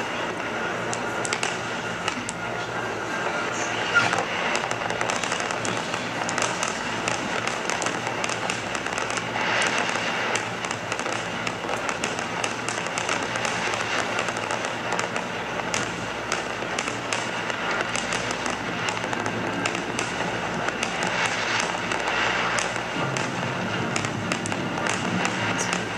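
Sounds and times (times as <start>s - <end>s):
fireworks crackling and banging: 0.0s - 25.9s.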